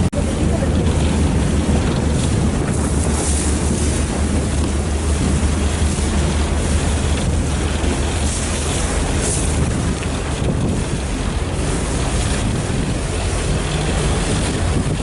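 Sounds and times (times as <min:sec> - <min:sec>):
ferry engine drone: 0:00.0 - 0:15.0
wind buffeting microphone: 0:00.0 - 0:15.0.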